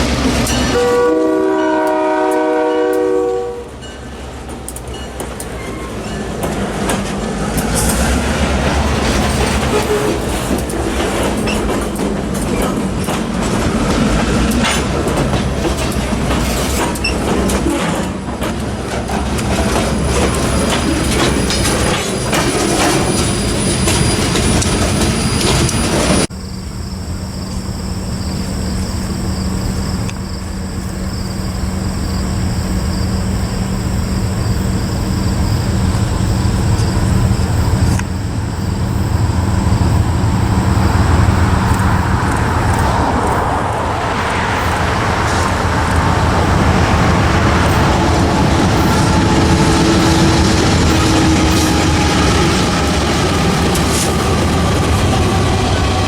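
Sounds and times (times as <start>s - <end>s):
train wheels clattering on rails: 0.0s - 26.8s, 27.4s - 56.0s
diesel locomotive humming: 0.0s - 56.0s.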